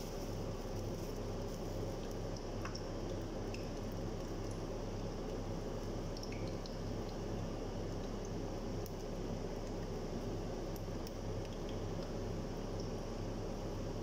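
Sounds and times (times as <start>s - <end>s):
dough frying in hot oil: 0.0s - 14.0s.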